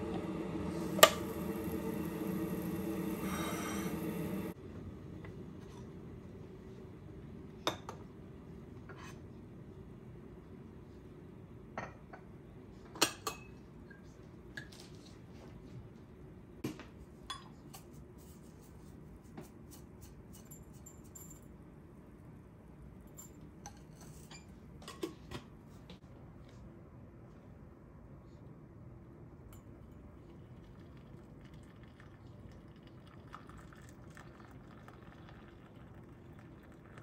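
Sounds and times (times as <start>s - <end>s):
low background noise: 3.9s - 37.0s.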